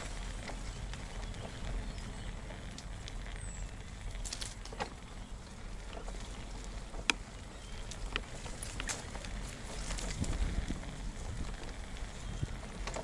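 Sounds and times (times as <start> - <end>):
bicycle tyres rumbling on dirt: 0.0 - 13.0
light clicks and ticks: 0.0 - 13.0.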